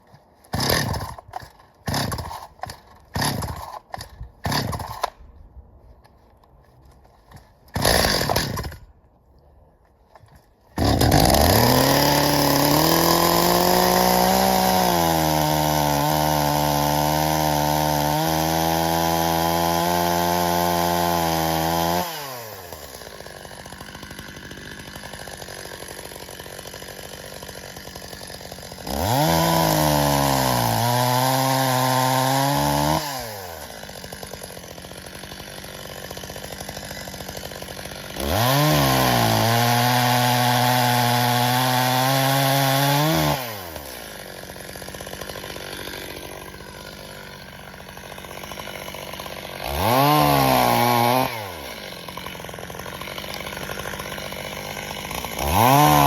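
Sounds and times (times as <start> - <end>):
chainsaw revving: 0.5 - 5.2, 7.7 - 8.8, 10.8 - 56.0.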